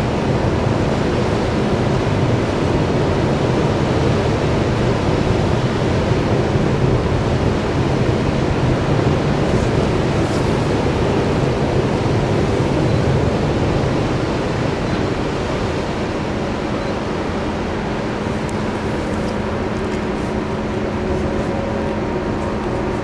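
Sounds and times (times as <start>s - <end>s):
low ship machinery hum: 0.0s - 23.0s
water rushing along ship hull: 0.0s - 23.0s
wind: 0.0s - 23.0s.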